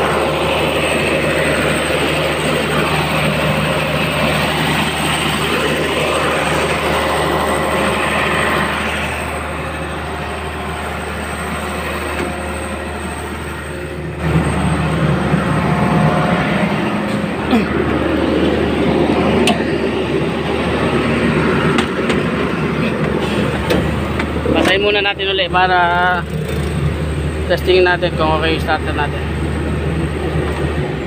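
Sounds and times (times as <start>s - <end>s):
diesel excavator engine running: 0.0s - 31.0s.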